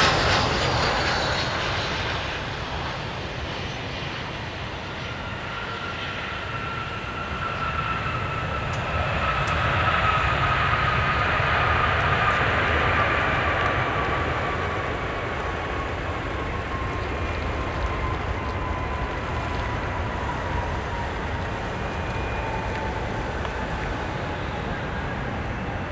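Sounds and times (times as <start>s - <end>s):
jet engine whine: 0.0s - 25.9s
jet engines roaring: 0.0s - 25.9s.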